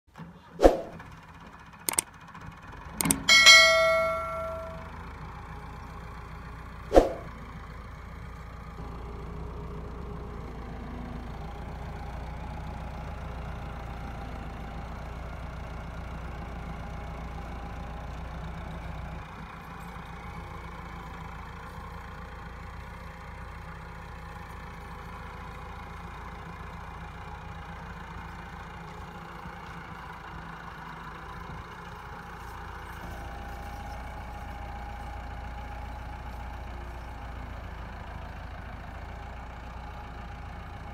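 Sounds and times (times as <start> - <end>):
tractor diesel engine running: 0.3 - 40.9.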